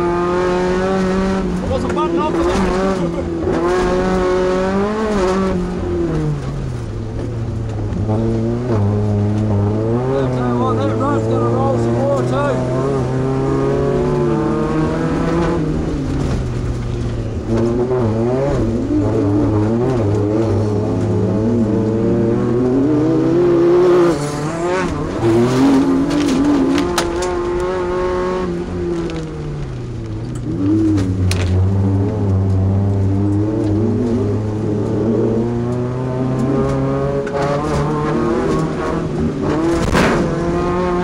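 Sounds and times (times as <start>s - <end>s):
race truck engine revving: 0.0s - 29.3s, 30.3s - 41.0s.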